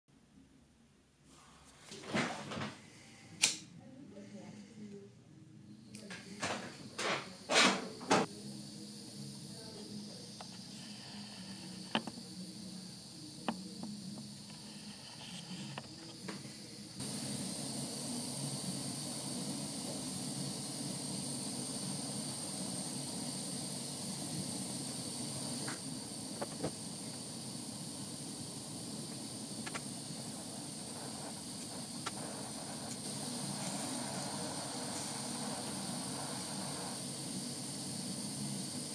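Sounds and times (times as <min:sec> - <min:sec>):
gas torch hissing: 0:05.7 - 0:38.9
loud torch bursts: 0:06.3 - 0:38.9.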